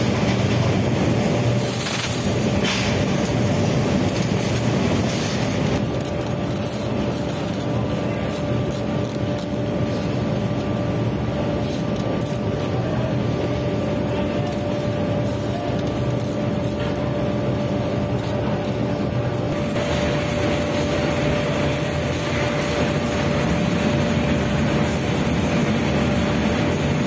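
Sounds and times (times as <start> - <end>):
constant hum tone: 0.0 - 27.0
workshop machinery drone: 0.0 - 27.0.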